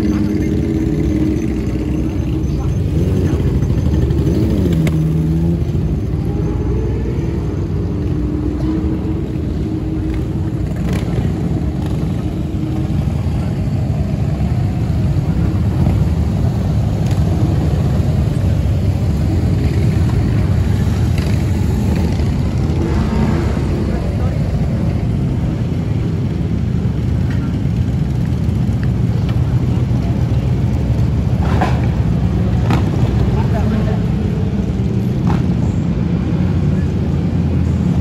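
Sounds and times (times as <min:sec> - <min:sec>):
vehicle engines rumbling: 0:00.0 - 0:38.0.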